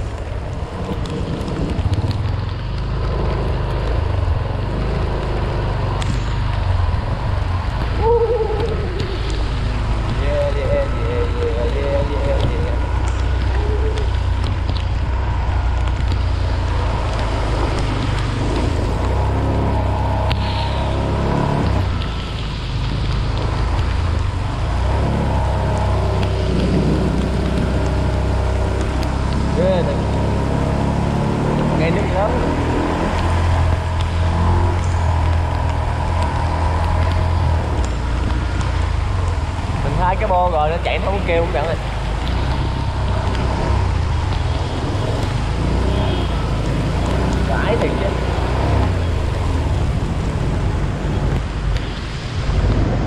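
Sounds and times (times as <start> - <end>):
wind buffeting microphone: 0.0 - 2.5, 4.0 - 53.0
rain falling: 0.0 - 53.0
tyres hissing on wet asphalt: 0.0 - 53.0.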